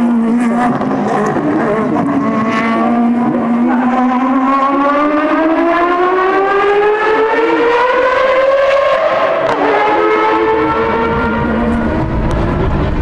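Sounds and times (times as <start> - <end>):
rotary engine accelerating hard: 0.0 - 13.0.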